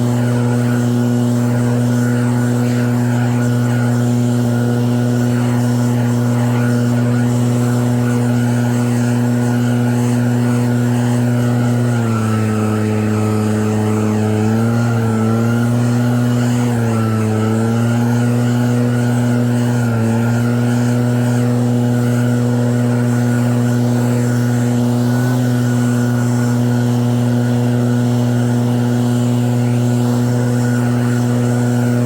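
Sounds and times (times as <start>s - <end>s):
snowblower engine running: 0.0s - 32.0s.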